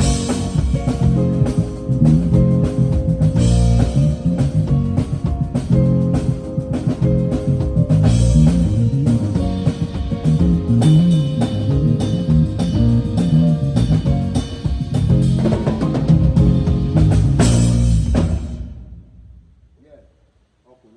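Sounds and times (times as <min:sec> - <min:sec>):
electric guitar: 0:00.0 - 0:18.4
bass guitar line: 0:00.0 - 0:18.6
drum kit hits: 0:00.0 - 0:19.6.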